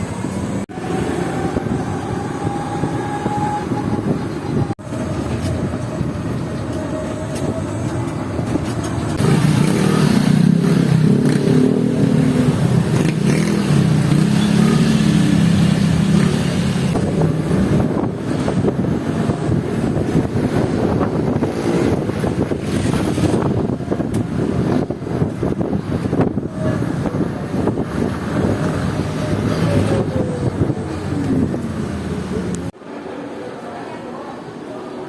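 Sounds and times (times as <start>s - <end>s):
vehicle engine: 0.0s - 32.8s
road traffic noise: 0.0s - 35.0s.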